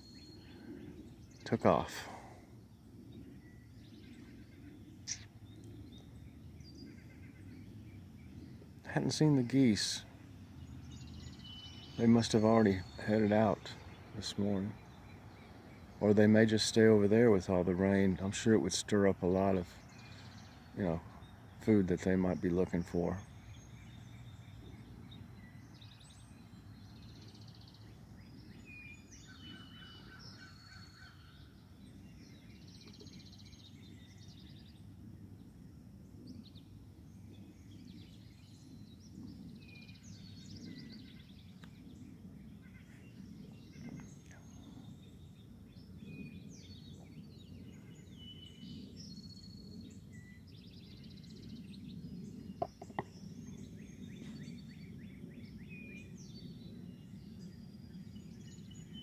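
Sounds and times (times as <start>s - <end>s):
songbirds singing and calling: 0.0s - 59.0s.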